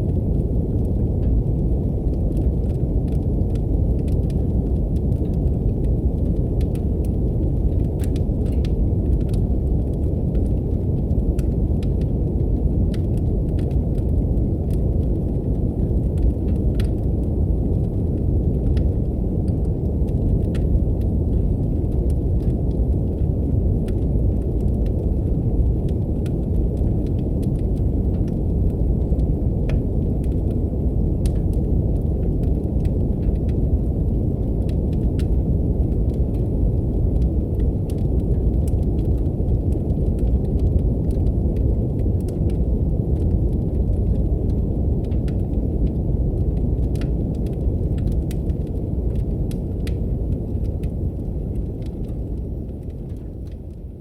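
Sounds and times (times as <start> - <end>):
brown noise hiss: 0.0 - 54.0
faint wood fire crackles: 0.0 - 54.0.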